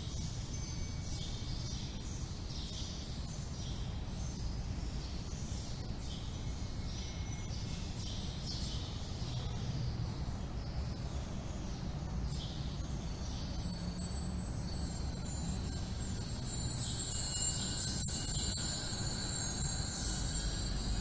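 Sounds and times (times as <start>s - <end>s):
small wind bells tinkling: 0.0s - 9.5s, 10.6s - 21.0s
low rumble of wind: 0.0s - 21.0s.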